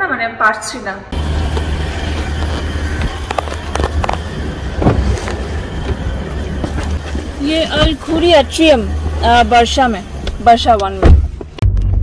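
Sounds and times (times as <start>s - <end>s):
street traffic rumble: 1.0s - 12.0s.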